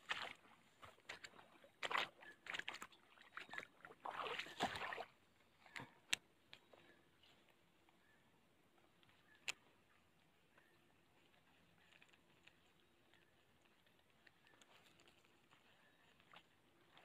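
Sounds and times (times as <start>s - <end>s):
rustling through wet grass: 0.0s - 5.7s, 9.0s - 17.0s.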